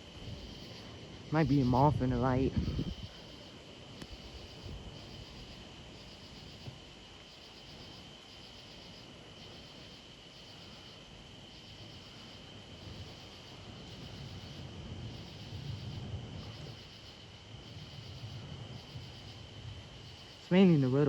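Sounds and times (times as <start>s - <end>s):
insect trill: 0.0s - 21.0s
pulsed insect chirping: 0.0s - 21.0s.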